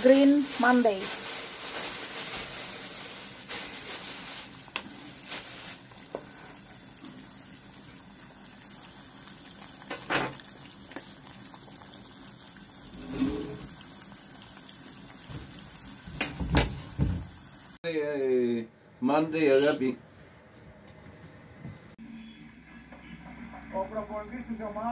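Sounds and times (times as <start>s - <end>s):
pot boiling and bubbling: 0.0s - 17.8s, 22.0s - 24.9s.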